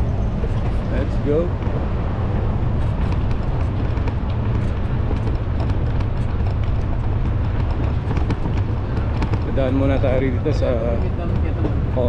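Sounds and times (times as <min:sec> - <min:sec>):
footsteps on pavement: 0:00.0 - 0:12.0
steady low rumble: 0:00.0 - 0:12.0.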